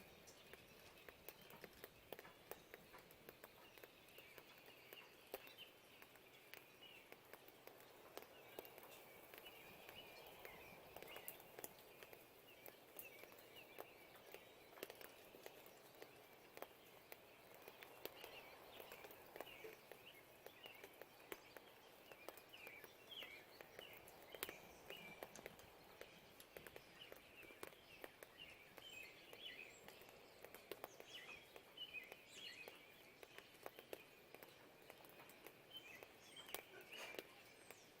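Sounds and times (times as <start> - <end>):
faint birdsong chirps: 0.0 - 38.0
raindrops ticking: 0.0 - 38.0.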